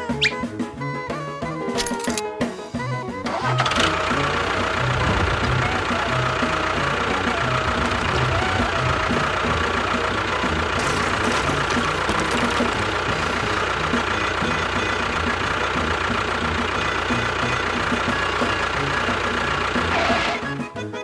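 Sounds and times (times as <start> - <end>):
engine running: 0.0 - 21.0
music: 0.0 - 21.0.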